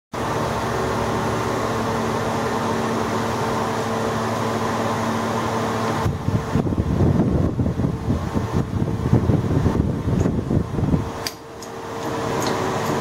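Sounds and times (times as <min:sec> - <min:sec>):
machine humming: 0:00.2 - 0:13.0.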